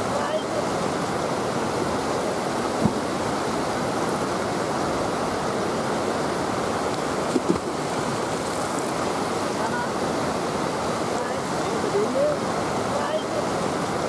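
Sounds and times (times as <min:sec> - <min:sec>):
river water rushing over weir: 0:00.0 - 0:14.0.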